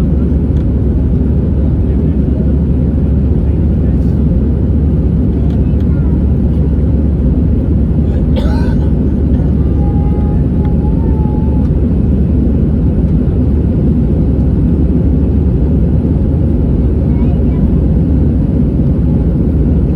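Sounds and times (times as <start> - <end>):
jet engines roaring in cabin: 0.0 - 19.9.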